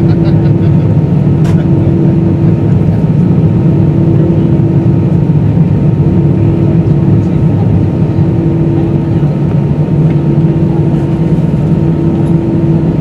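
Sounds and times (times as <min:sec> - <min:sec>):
faint hum: 0:00.0 - 0:13.0
jet engines rumbling: 0:00.0 - 0:13.0.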